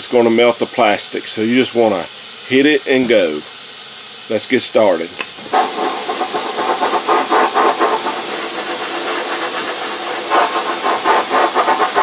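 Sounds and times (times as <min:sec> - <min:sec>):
sandblast gun hissing: 0:00.0 - 0:12.0.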